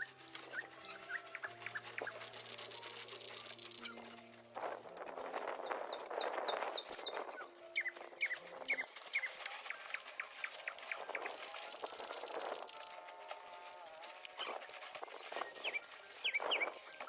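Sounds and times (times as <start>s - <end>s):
bird chirping: 0.0s - 4.8s, 5.4s - 13.2s, 14.4s - 17.0s
rustling hiss: 0.0s - 17.0s.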